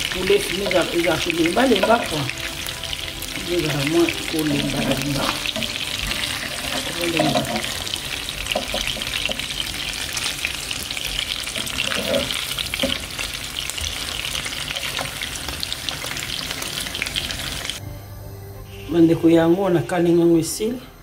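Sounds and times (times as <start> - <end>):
chicken sizzling in hot oil: 0.0 - 17.8.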